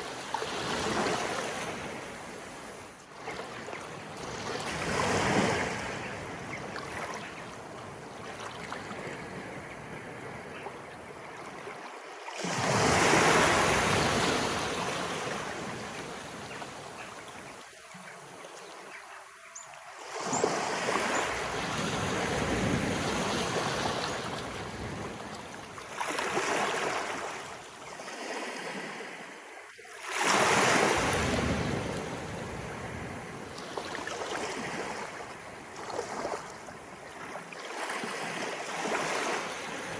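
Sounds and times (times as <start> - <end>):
sea waves breaking on shore: 0.0 - 19.2, 19.8 - 39.9.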